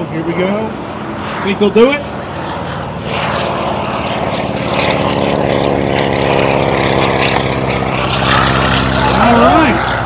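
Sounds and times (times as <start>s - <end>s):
biplane engine and propeller: 0.0s - 10.0s.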